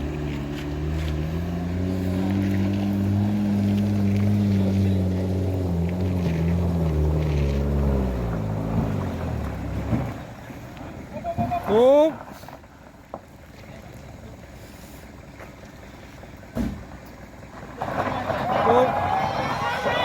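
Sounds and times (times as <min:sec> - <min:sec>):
diesel truck engine labouring: 0:00.0 - 0:13.0, 0:14.1 - 0:20.0.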